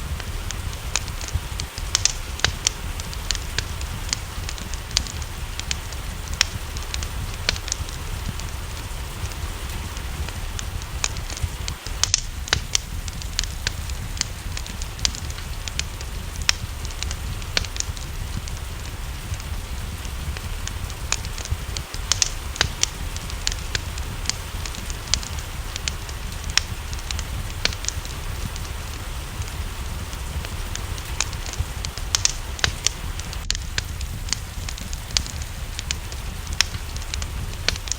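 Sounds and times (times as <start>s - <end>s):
low rumble: 0.0s - 37.9s
rain hissing: 0.0s - 37.9s
wood fire crackling and popping: 0.0s - 37.9s.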